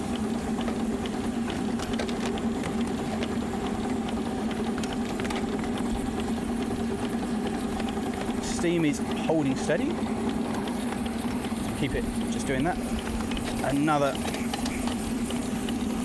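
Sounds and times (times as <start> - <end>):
steam locomotive running: 0.0 - 16.0
wheels ticking on rails: 0.0 - 16.0.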